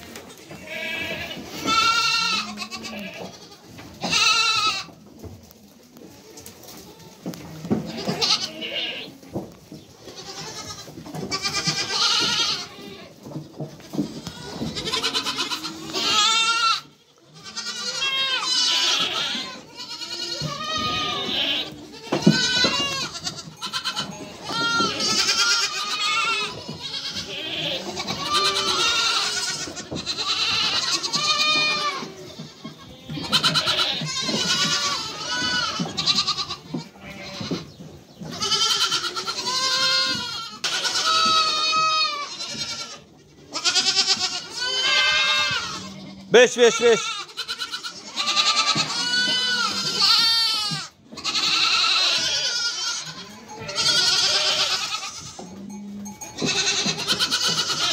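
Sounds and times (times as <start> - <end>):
goat kids bleating: 0.0 - 5.0, 6.0 - 9.2, 9.8 - 57.9.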